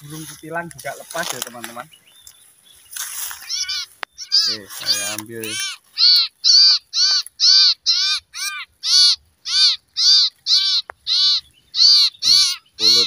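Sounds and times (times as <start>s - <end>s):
bird harsh distress calls: 0.0s - 13.0s.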